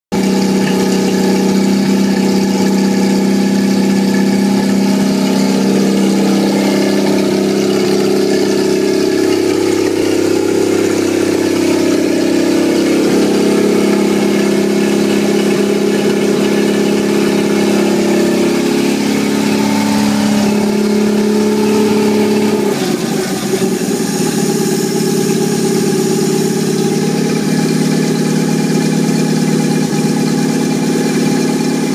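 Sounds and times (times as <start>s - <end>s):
car engine running on a stand: 0.1s - 31.9s.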